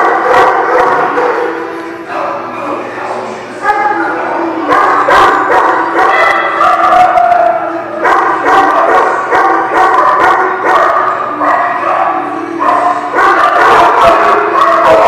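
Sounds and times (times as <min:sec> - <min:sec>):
dogs barking and howling: 0:00.0 - 0:01.9, 0:03.6 - 0:15.0.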